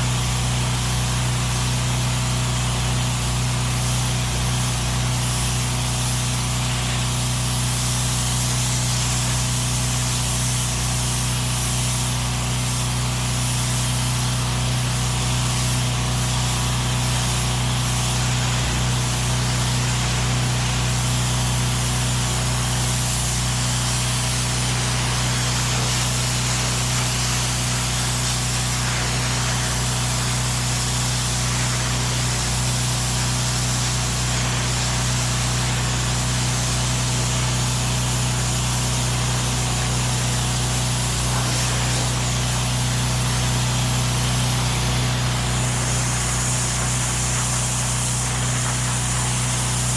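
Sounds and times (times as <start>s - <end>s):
high-pressure water spray hiss: 0.0s - 49.9s
pressure washer engine hum: 0.0s - 49.9s.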